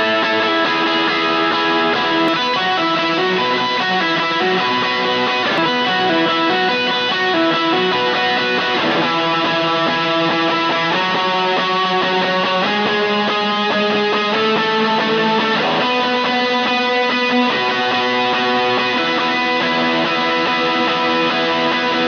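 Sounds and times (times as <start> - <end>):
electric guitar sustained notes: 0.0 - 22.0.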